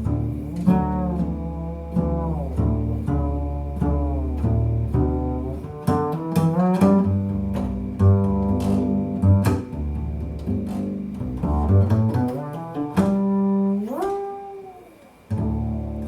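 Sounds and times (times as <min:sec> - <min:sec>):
double bass playing notes: 0:00.0 - 0:16.0.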